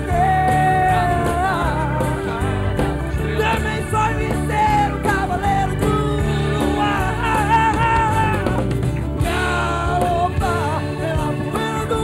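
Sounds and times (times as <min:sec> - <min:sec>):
acoustic bass guitar: 0:00.0 - 0:12.0
drum kit: 0:00.0 - 0:12.0
keyboards: 0:00.0 - 0:12.0
man singing: 0:00.0 - 0:12.0
strummed acoustic guitar: 0:00.0 - 0:12.0.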